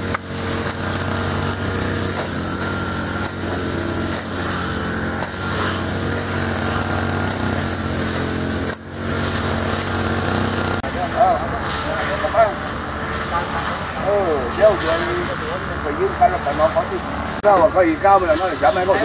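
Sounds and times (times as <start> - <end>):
brush cutter engines cutting grass: 0.0 - 19.0.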